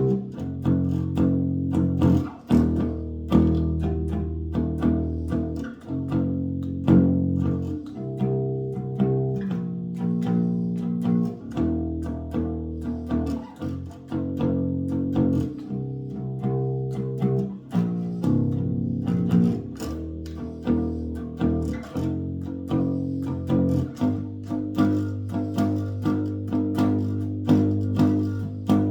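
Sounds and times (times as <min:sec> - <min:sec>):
bass guitar plucked notes: 0:00.0 - 0:28.9.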